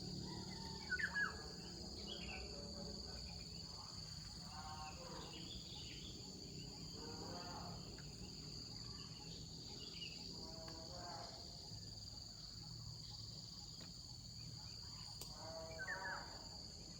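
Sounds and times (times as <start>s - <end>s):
cricket chorus: 0.0s - 16.9s.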